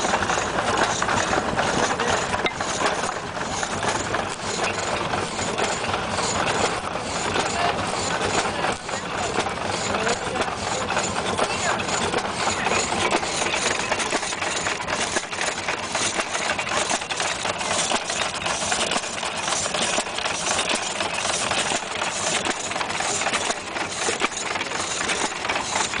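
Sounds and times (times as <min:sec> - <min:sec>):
hit-and-miss engine running: 0:00.0 - 0:26.0
mechanical knocks and rattles: 0:00.0 - 0:26.0.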